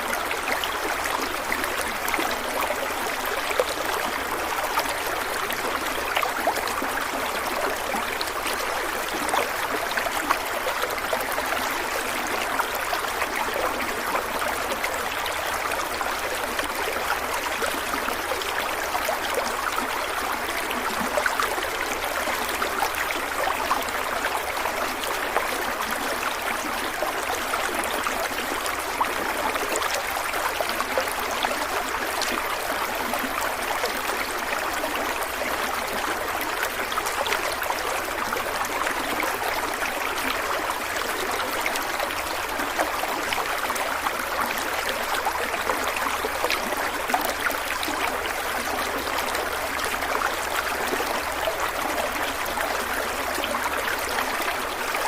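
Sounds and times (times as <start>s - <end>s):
stream water flowing and gurgling: 0.0s - 55.0s.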